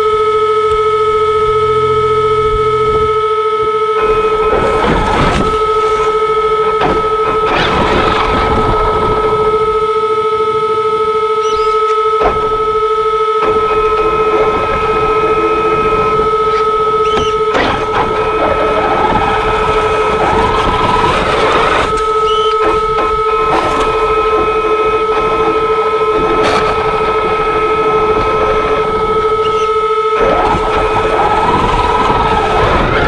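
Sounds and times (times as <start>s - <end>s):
electric motor high whine: 0.0s - 33.0s
plow blade scraping snow: 4.0s - 10.7s, 11.4s - 33.0s.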